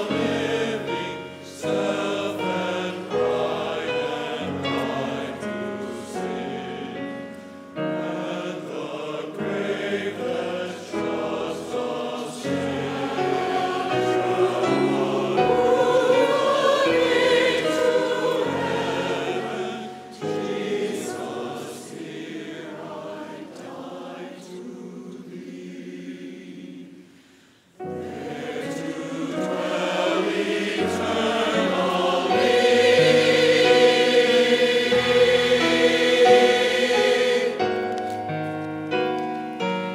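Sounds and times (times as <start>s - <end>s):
piano accompaniment: 0.0s - 23.8s, 27.8s - 39.9s
choir singing: 0.0s - 38.4s.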